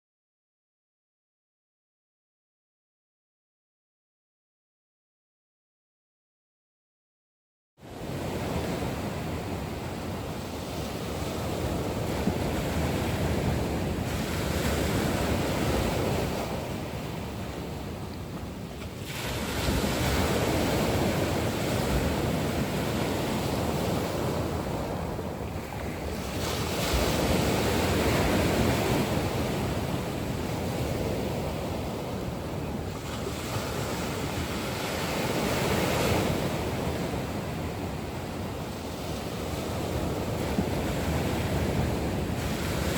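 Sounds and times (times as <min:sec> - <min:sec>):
sea waves washing in: 0:07.8 - 0:42.9.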